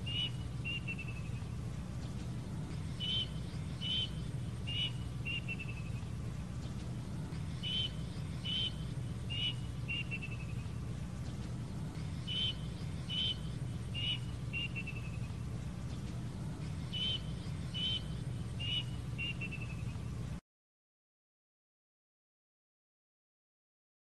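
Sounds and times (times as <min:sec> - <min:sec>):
cuckoo calling: 0:00.0 - 0:20.2
steady low hum: 0:00.0 - 0:20.4.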